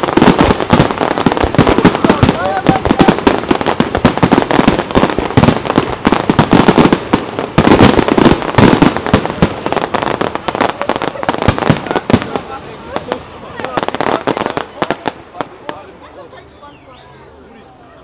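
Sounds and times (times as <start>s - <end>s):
fireworks bursting: 0.0s - 17.5s.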